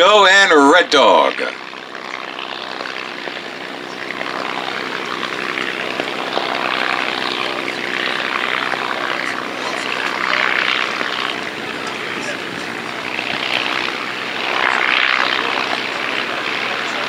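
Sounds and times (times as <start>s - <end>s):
propeller plane engine running: 0.0s - 17.0s.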